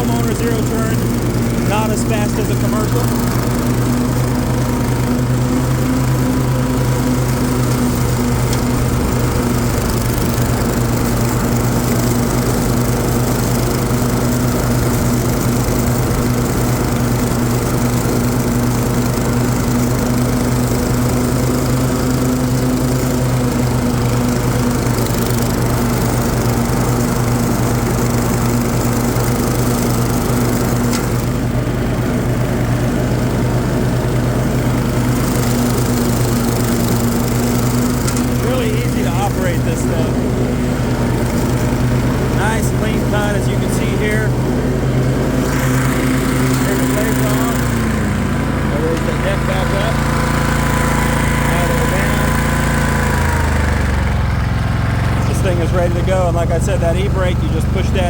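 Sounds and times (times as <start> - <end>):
mower blades cutting grass: 0.0 - 58.0
riding mower engine humming: 0.0 - 58.0.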